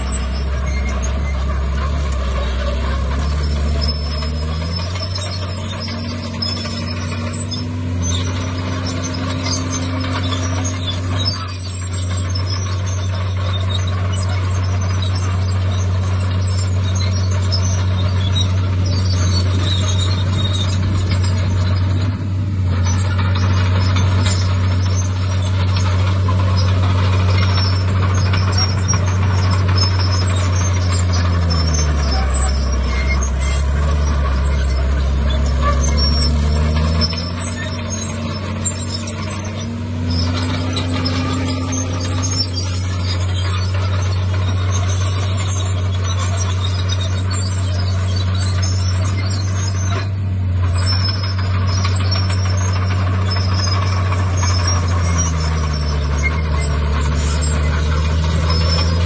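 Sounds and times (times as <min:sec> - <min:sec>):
bulldozer diesel engine revving: 0:00.0 - 0:59.0.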